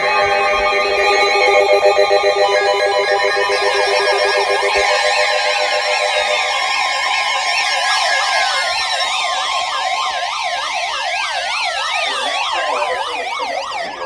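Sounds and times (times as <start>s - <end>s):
electronic sirens warbling: 0.0s - 14.0s
steady alarm tone: 0.0s - 14.0s.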